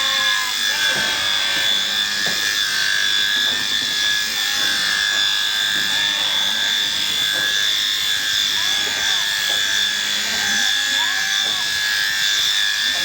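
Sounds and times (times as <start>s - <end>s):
electric shearing handpiece whine: 0.0s - 13.0s.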